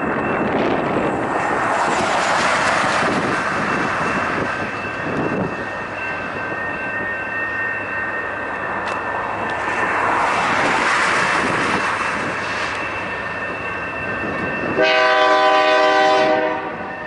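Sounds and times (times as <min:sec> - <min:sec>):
steel wheels rushing on rail: 0:00.0 - 0:17.0.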